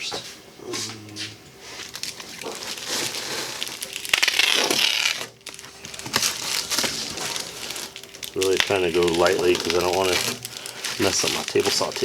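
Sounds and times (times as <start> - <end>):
bubble foil crinkling: 1.6 - 12.0.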